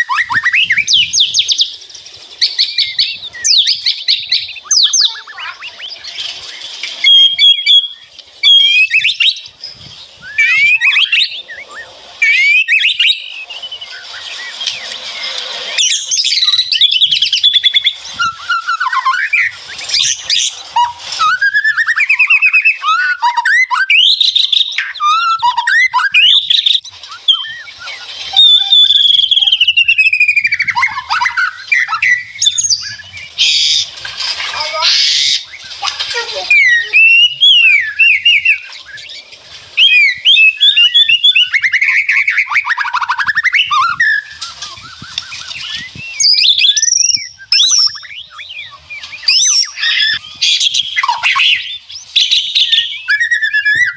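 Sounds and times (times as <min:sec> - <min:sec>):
bird singing varied song: 0:00.0 - 0:53.9.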